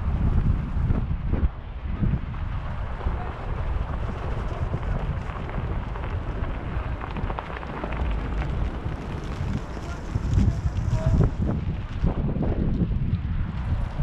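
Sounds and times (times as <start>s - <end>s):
wind rumbling on microphone: 0.0s - 14.0s
tyres crackling on snow: 1.9s - 14.0s.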